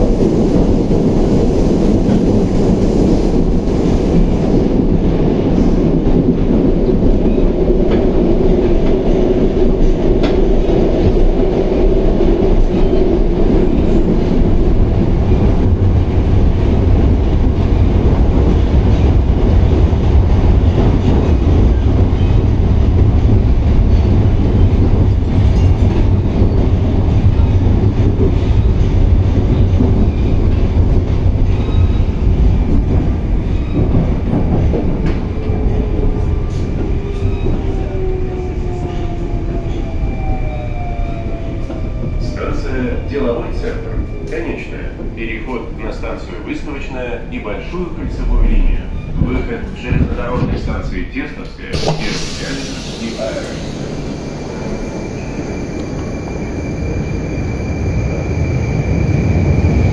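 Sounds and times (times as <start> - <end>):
metro train wheels rumbling: 0.0 - 59.9.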